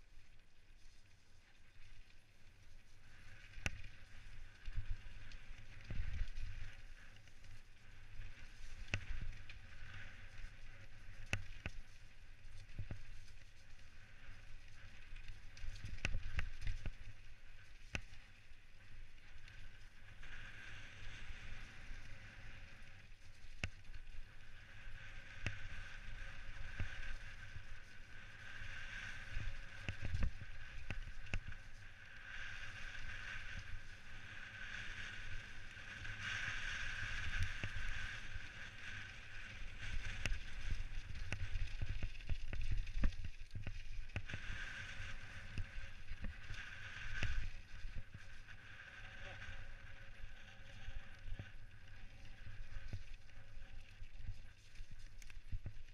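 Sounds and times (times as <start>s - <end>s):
wind rumbling on microphone: 0.0s - 55.9s.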